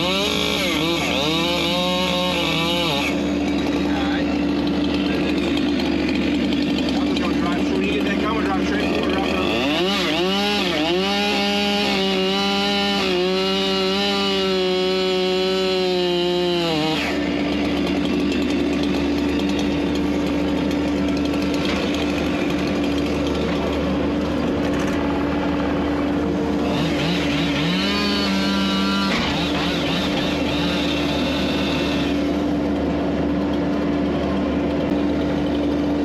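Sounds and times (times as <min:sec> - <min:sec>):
second engine running steadily: 0:00.0 - 0:10.4, 0:16.2 - 0:36.0
chainsaw revving: 0:00.0 - 0:36.0.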